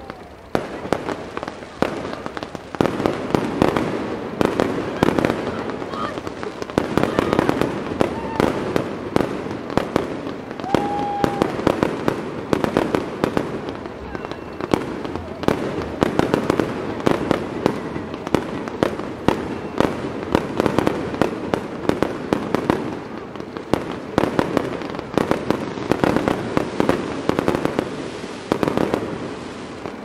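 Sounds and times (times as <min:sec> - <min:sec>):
fireworks bursts and bangs: 0:00.0 - 0:30.0
steady rush of noise: 0:00.0 - 0:30.0.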